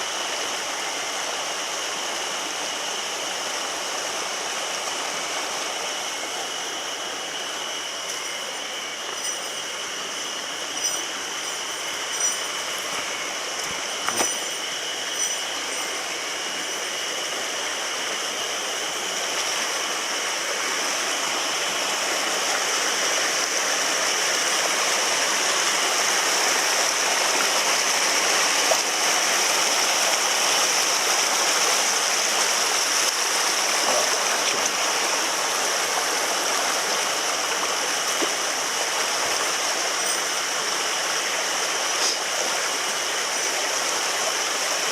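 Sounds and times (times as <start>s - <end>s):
mountain stream rushing: 0.0s - 44.9s.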